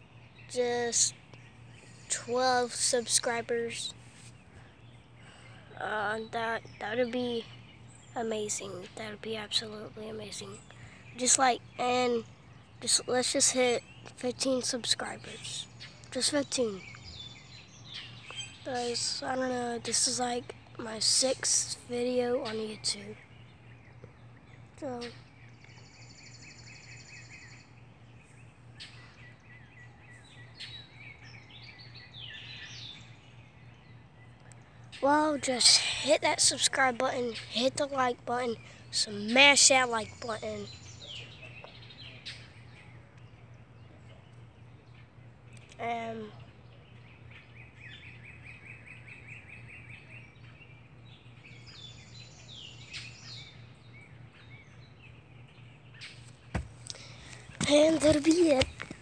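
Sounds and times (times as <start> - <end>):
birds singing: 0.0 - 59.0
steady low hum: 0.0 - 59.0.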